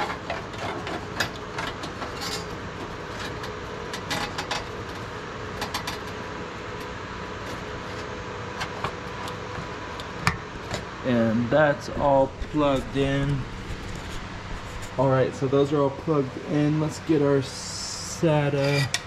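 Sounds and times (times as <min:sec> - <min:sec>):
faint whine: 0:01.6 - 0:19.0.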